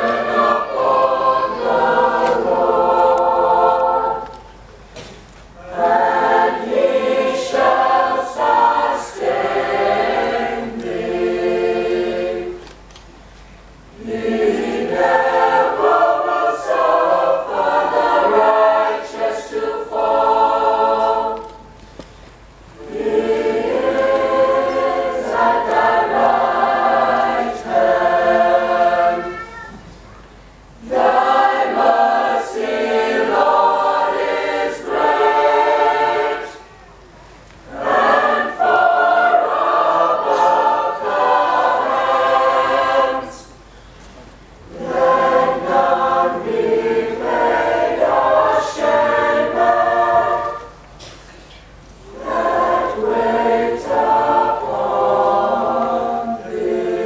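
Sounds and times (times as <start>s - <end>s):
youth choir singing: 0.0s - 4.7s, 5.6s - 12.7s, 13.9s - 21.8s, 22.8s - 29.9s, 30.8s - 36.7s, 37.6s - 43.6s, 44.6s - 51.1s, 52.0s - 57.0s.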